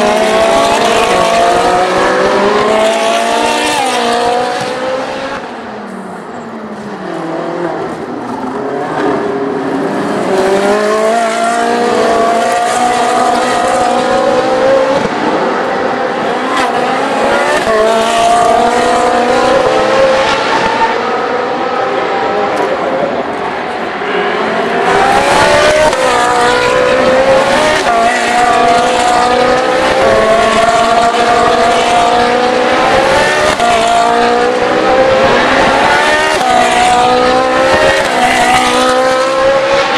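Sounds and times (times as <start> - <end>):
race car engines accelerating: 0.0 - 39.9.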